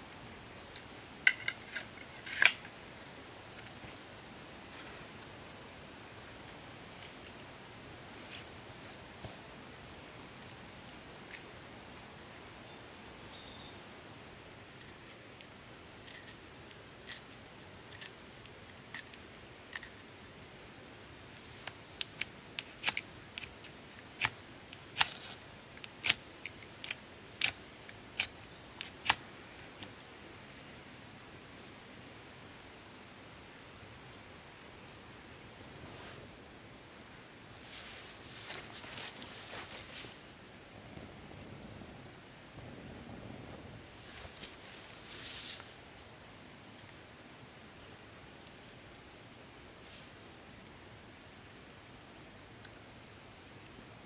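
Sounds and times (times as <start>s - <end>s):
high insect drone: 0.0s - 54.0s.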